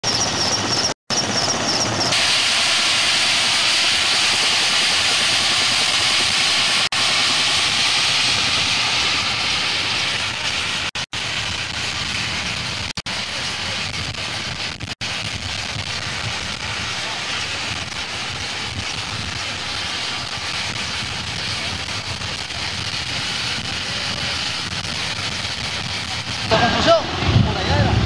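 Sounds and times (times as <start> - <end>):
helicopter turbine whine: 0.0 - 28.0.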